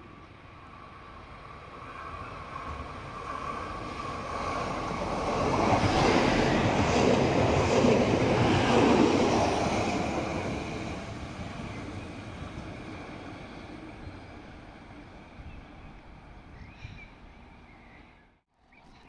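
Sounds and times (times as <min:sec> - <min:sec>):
diesel train passing: 0:00.0 - 0:18.4.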